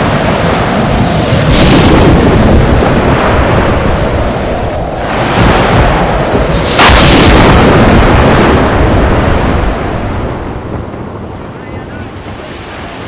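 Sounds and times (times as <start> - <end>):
sea waves breaking on shore: 0.0 - 13.0
wind buffeting microphone: 0.0 - 13.0.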